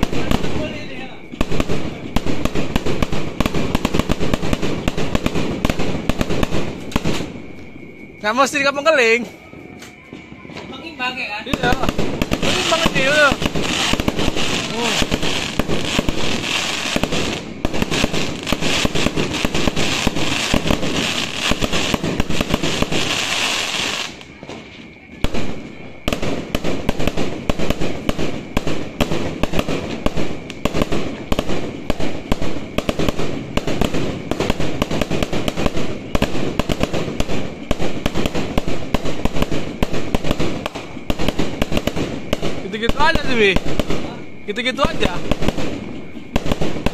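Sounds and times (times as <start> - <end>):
fireworks bursting with crackling: 0.0 - 46.9.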